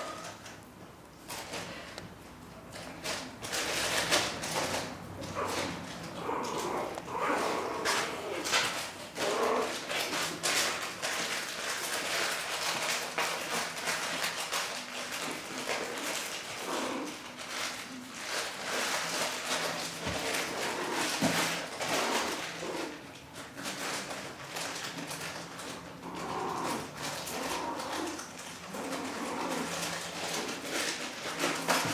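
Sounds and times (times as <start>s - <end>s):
scratching and rustling: 0.0s - 31.9s.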